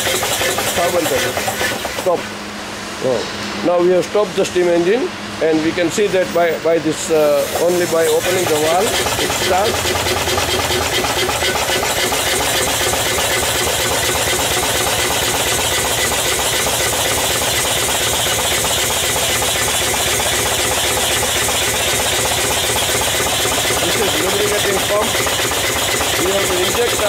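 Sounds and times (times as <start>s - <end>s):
steam engine beating: 0.0s - 2.4s, 7.0s - 27.0s
steam hissing: 0.0s - 2.4s, 7.0s - 27.0s.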